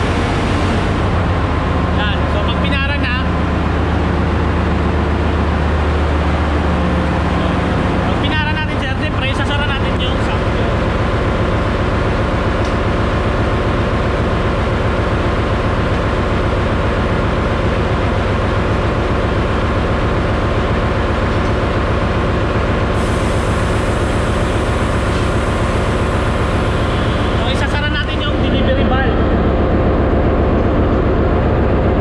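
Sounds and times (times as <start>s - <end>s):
diesel generator engines droning: 0.0s - 32.0s.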